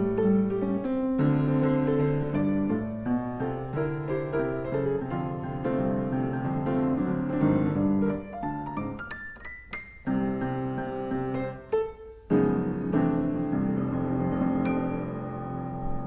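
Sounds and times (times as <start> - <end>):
solo piano playing chords: 0.0 - 16.0.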